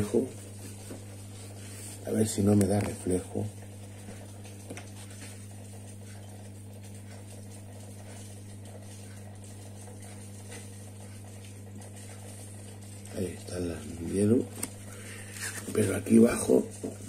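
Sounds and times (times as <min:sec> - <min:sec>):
aquarium equipment humming: 0:00.0 - 0:17.0.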